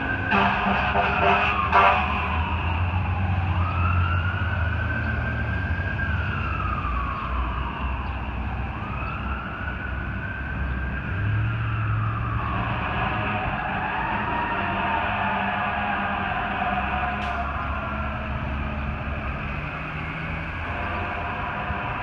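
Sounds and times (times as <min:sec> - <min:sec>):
mechanical siren wailing: 0:00.0 - 0:22.0.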